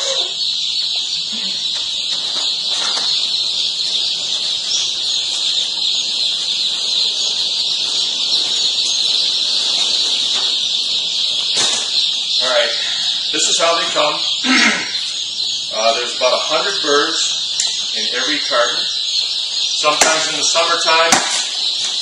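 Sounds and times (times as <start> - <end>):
chicks peeping chorus: 0.0 - 22.0.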